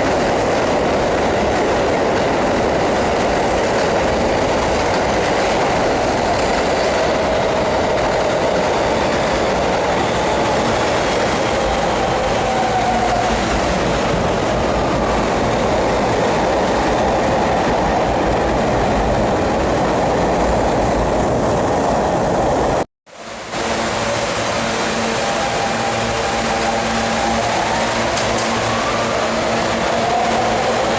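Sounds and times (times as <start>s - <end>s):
subway train wheels clattering: 0.0s - 30.9s.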